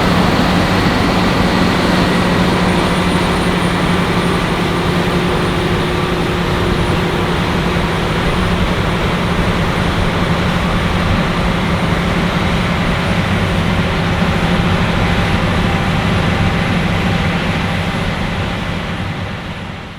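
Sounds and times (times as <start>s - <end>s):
combine harvester running: 0.0s - 19.9s.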